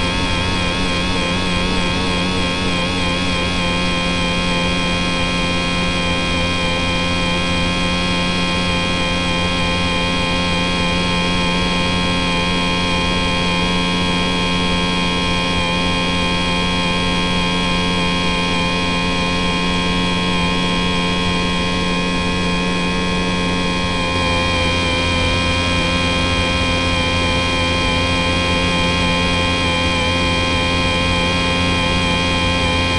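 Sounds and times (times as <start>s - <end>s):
model plane motor whining: 0.0s - 32.9s.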